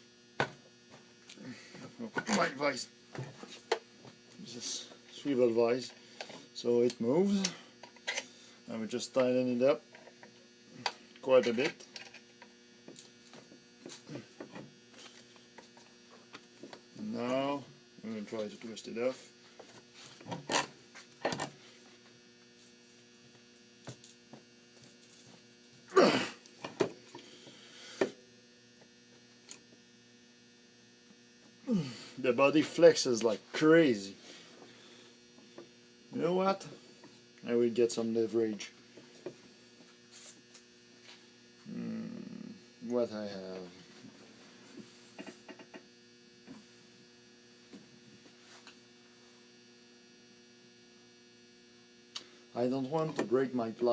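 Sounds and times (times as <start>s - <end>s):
steady electrical hum: 0.0s - 53.9s.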